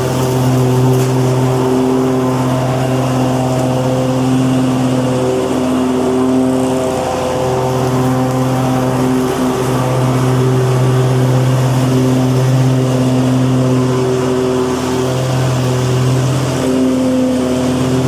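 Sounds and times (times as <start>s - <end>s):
lawnmower engine running: 0.0s - 18.0s.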